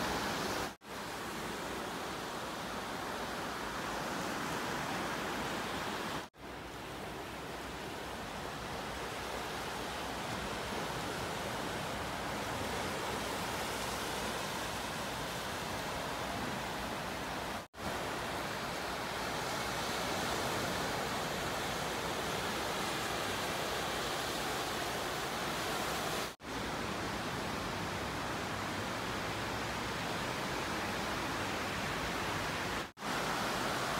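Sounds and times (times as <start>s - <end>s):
small waves breaking on beach: 0.0s - 33.9s.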